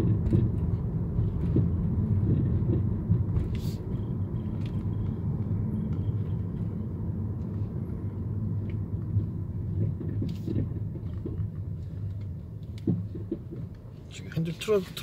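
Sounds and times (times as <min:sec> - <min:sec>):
low road rumble inside car: 0:00.0 - 0:15.0
suspension knocks and rattles: 0:00.0 - 0:15.0.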